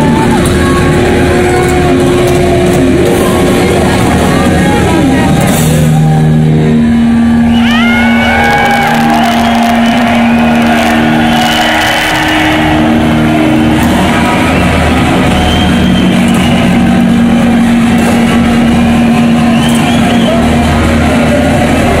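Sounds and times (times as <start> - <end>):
distorted electric guitar bends: 0.0 - 22.0
pulsing bass: 0.0 - 22.0.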